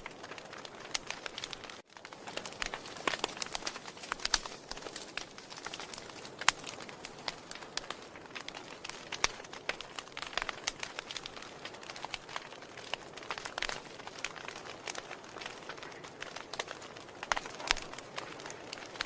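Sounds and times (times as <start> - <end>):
wood fire crackling: 0.0 - 19.0
hiss of burning: 0.2 - 19.0.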